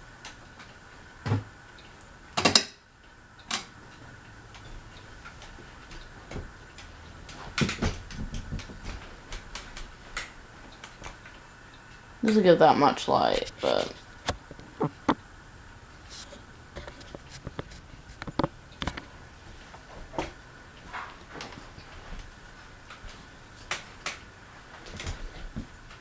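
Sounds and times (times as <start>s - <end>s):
faint high hum: 0.0s - 26.0s.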